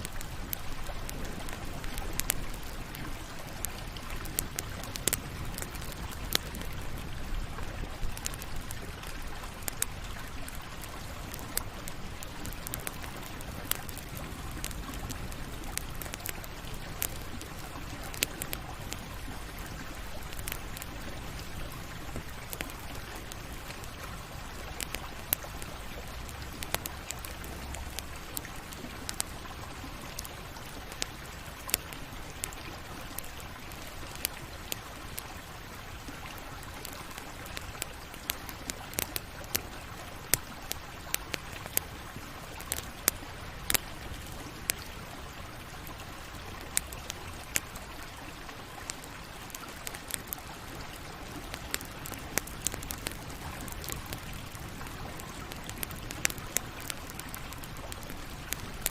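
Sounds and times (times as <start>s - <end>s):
campfire crackling and hissing: 0.0s - 58.9s.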